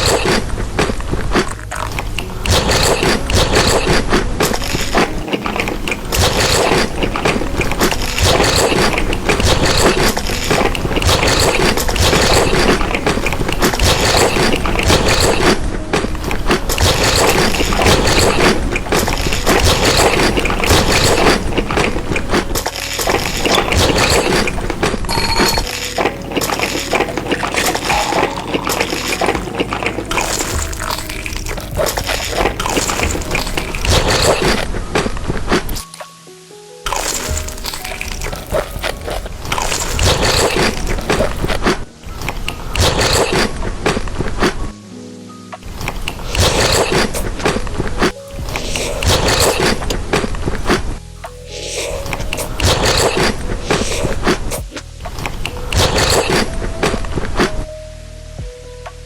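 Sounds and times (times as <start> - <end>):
crunching and chewing: 0.0 - 35.9, 36.9 - 44.8, 45.6 - 57.7.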